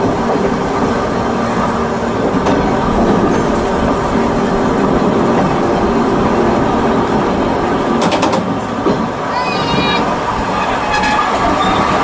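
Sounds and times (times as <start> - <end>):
wheels rumbling on rails: 0.0 - 12.0.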